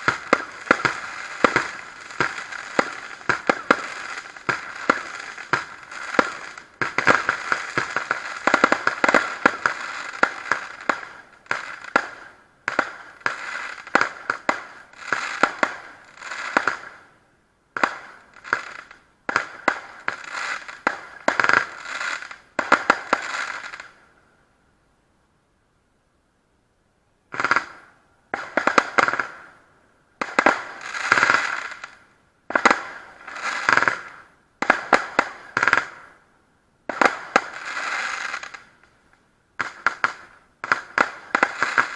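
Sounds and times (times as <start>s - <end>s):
fireworks cracking and banging: 0.0s - 17.1s, 17.7s - 24.0s, 27.3s - 29.5s, 30.2s - 36.2s, 36.9s - 39.0s, 39.6s - 41.9s.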